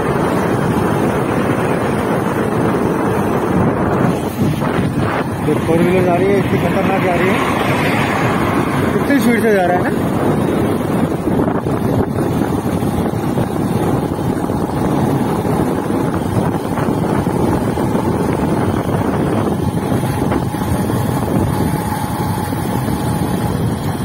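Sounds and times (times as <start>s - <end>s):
motorcycle engine rumble: 0.0s - 24.0s
wind buffeting microphone: 0.0s - 24.0s.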